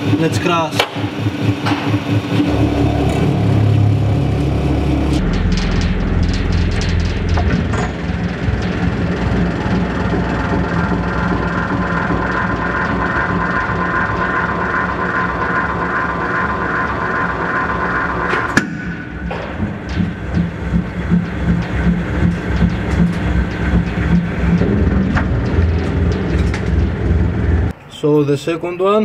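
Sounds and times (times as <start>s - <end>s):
hydraulic press whining: 0.0s - 27.7s.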